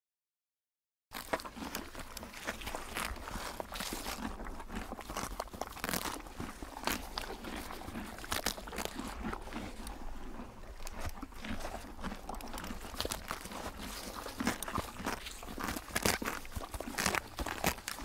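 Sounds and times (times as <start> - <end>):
zebra chewing leafy greens: 1.1 - 18.0.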